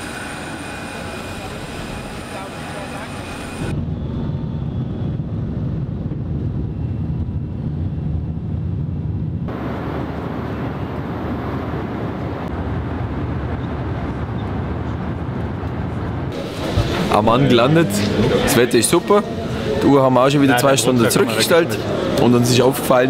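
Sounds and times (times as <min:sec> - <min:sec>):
rushing air: 0:00.0 - 0:19.9
jet engines rumbling: 0:00.0 - 0:23.0.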